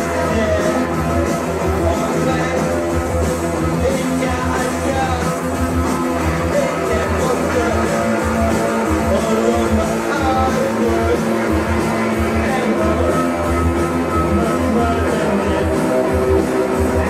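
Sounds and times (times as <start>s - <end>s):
electric guitar: 0.0s - 17.0s
heavy steady beat: 0.0s - 17.0s
loud rock music: 0.0s - 17.0s
person singing: 0.0s - 17.0s.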